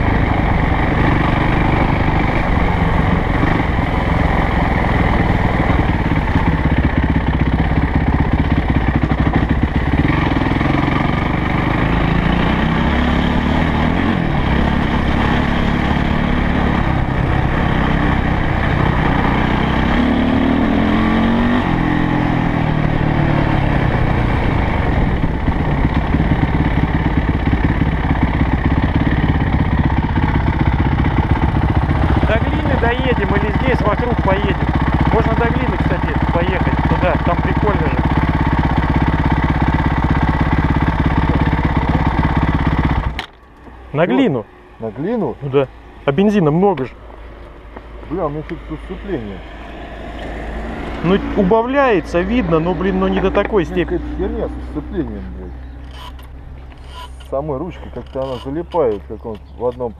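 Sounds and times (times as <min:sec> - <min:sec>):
dirt bike engine revving: 0:00.0 - 0:47.0, 0:48.0 - 0:59.3.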